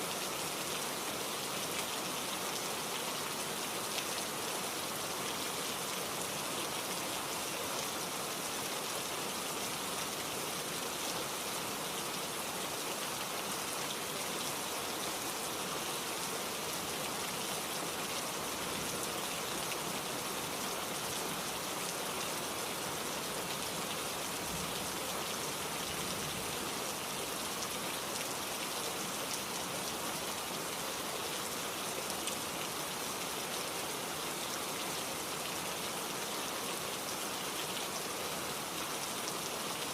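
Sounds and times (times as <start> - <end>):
rain pattering on a surface: 0.1 - 39.9.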